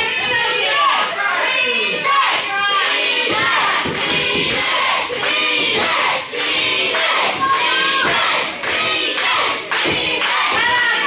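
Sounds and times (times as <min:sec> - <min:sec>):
crowd yelling and chanting: 0:00.0 - 0:11.0.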